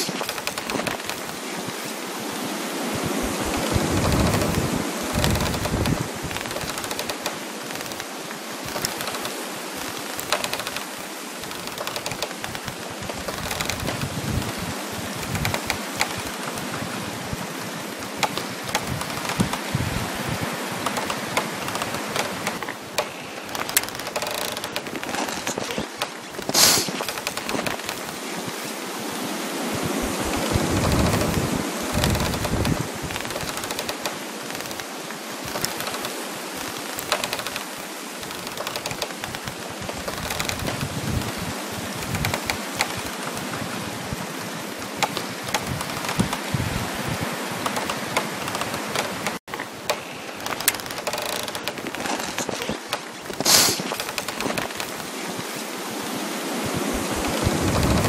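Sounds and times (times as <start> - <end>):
frost crackling and snapping: 0.0 - 1.9, 3.0 - 28.8, 29.9 - 55.2
wind in trees: 0.0 - 58.0.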